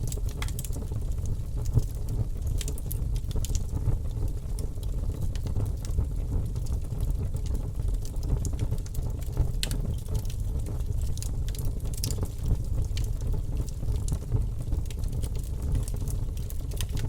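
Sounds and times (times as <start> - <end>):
burning wood crackling and popping: 0.0 - 17.0
campfire flame rumble: 0.0 - 17.0.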